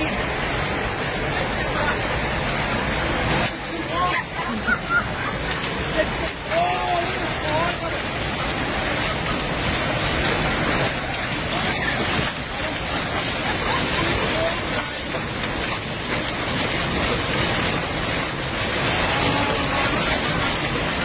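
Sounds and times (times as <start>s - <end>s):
faint voices: 0.0s - 21.0s
hail clattering on a surface: 0.0s - 21.0s.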